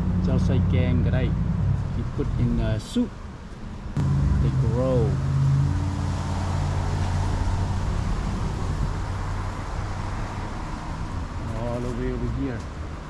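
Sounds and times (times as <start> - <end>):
broad noisy wash: 0.0 - 13.0.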